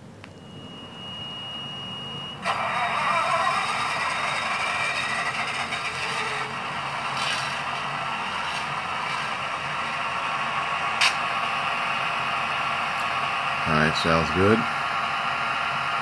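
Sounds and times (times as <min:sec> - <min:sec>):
diesel engine idling through small speaker: 0:00.0 - 0:16.0.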